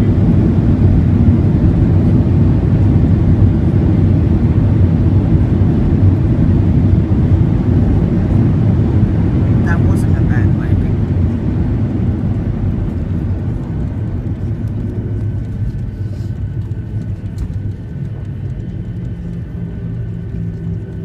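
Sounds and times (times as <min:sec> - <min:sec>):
jet engines and wheels rumbling: 0:00.0 - 0:21.0
steady engine tones: 0:00.0 - 0:21.0.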